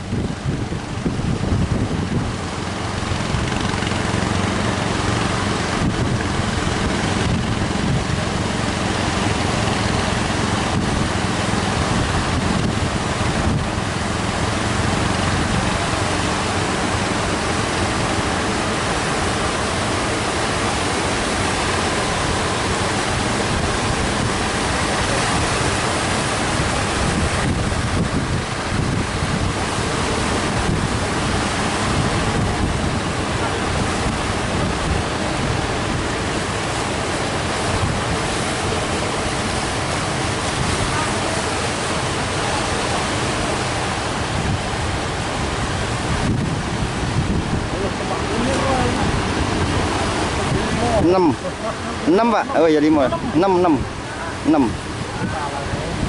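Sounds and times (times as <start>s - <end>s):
sea surf breaking: 0.0s - 56.0s
wind buffeting microphone: 0.0s - 56.0s.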